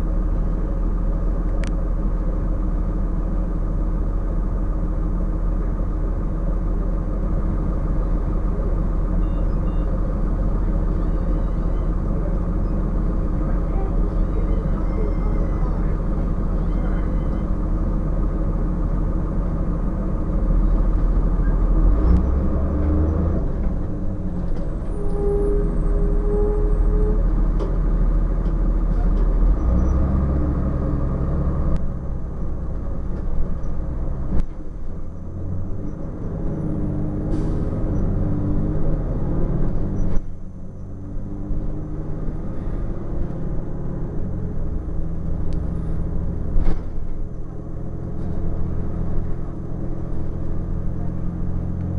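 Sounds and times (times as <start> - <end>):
diesel bus engine running: 0.0 - 51.9.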